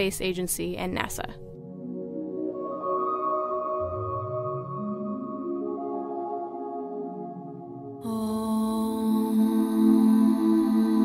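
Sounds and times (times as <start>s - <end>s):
meditative low drone music: 1.4s - 11.0s.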